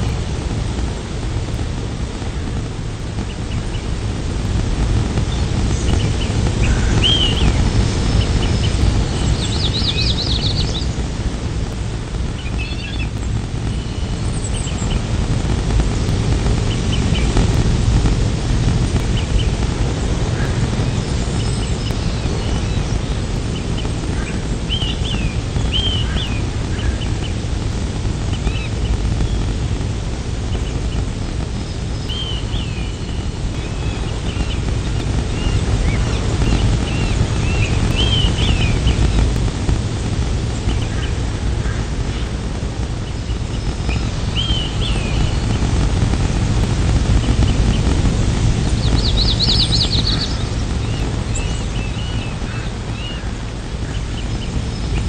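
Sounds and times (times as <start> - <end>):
small birds chirping: 0.0 - 55.0
wind rumble: 0.0 - 55.0.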